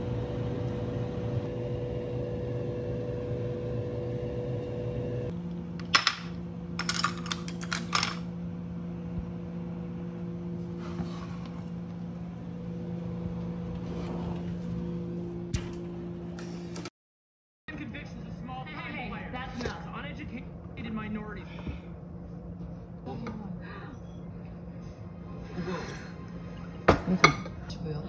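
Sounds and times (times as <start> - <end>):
fan humming: 0.0 - 16.9, 17.7 - 28.0.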